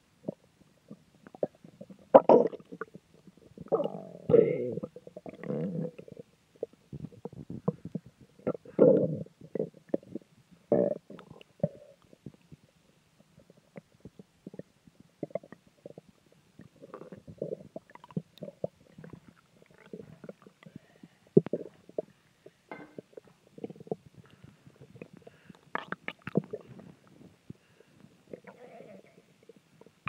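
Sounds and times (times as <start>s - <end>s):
stomach growling and gurgling: 0.2s - 30.0s.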